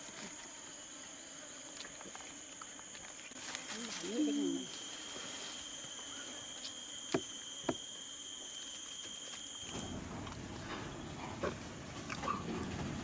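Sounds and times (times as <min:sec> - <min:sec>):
forest insects chorus: 0:00.0 - 0:11.2.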